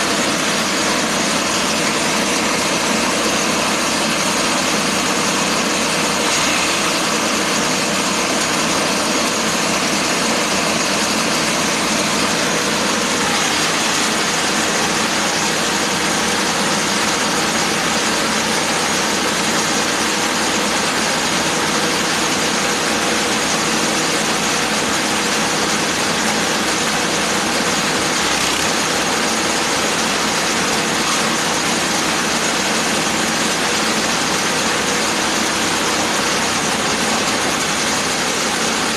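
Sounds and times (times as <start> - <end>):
grass chopper machine running: 0.0 - 38.9.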